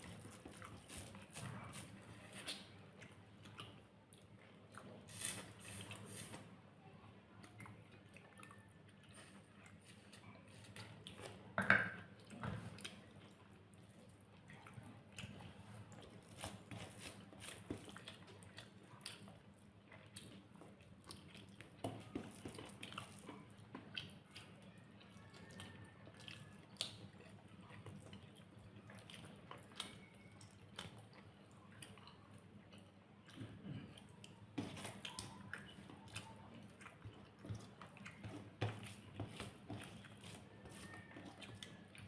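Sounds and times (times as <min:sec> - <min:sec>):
person chewing food: 0:00.0 - 0:06.5, 0:07.4 - 0:42.0.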